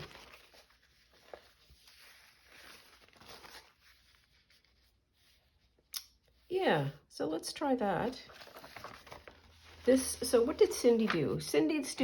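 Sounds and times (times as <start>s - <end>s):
paper rustling: 0.0s - 5.9s, 8.2s - 12.0s.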